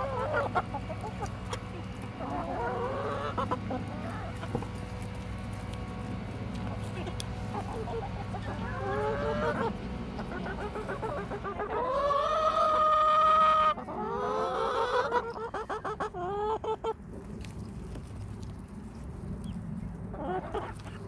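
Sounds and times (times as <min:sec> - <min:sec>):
chickens calling: 0:00.0 - 0:18.2, 0:19.4 - 0:21.0
chickens clucking: 0:00.0 - 0:18.2, 0:19.4 - 0:21.0.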